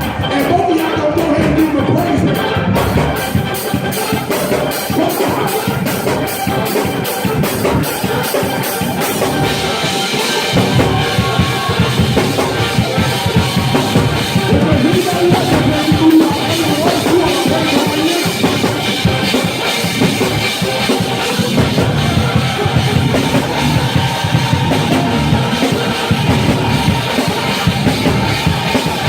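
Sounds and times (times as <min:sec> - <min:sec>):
band playing praise music: 0:00.0 - 0:29.0
bass drum and snare: 0:00.0 - 0:29.0.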